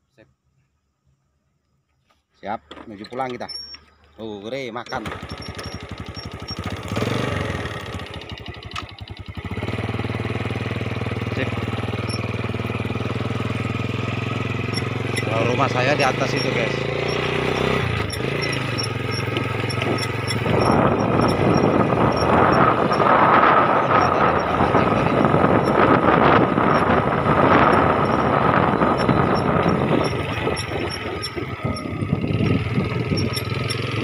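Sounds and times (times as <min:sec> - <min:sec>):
motorcycle engine running: 0:04.8 - 0:34.0.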